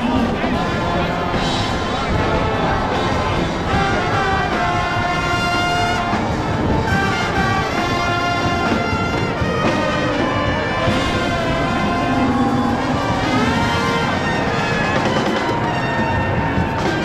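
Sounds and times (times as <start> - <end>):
band music with horns: 0.0 - 17.0.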